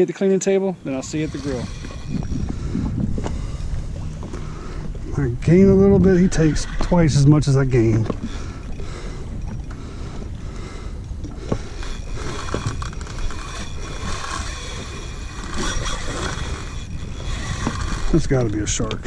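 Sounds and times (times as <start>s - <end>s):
wind: 0.0s - 19.0s
water noise: 0.6s - 19.0s
fishing reel whining and clicking: 0.8s - 19.0s.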